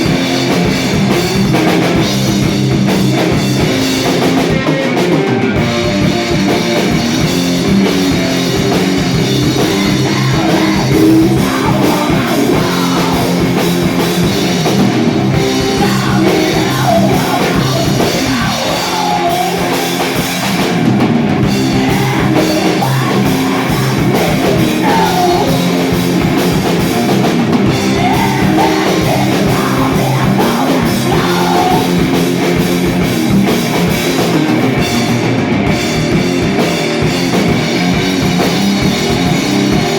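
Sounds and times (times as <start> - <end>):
drum kit: 0.0 - 39.9
guitar: 0.0 - 39.9
rock band playing live: 0.0 - 39.9.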